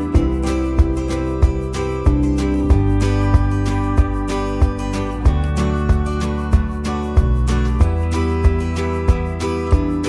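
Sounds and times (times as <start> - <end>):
acoustic guitar music with beat: 0.0 - 10.0.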